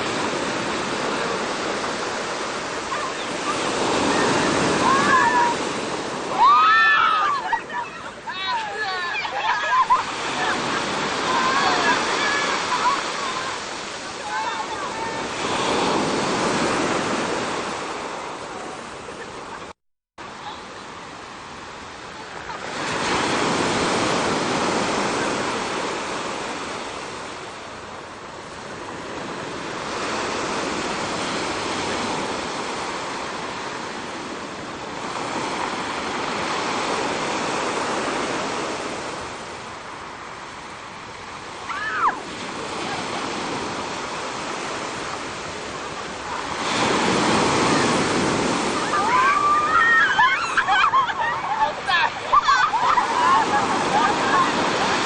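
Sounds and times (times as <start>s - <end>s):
ocean surf breaking on shore: 0.0s - 55.0s.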